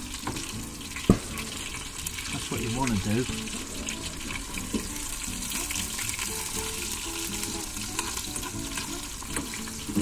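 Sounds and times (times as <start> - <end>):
food deep-frying sizzling: 0.0 - 10.0.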